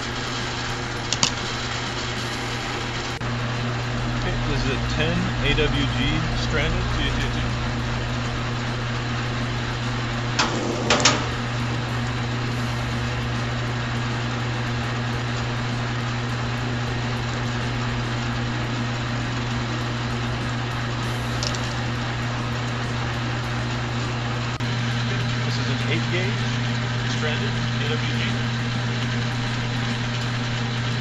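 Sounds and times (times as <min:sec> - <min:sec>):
machine motor humming: 0:00.0 - 0:31.0.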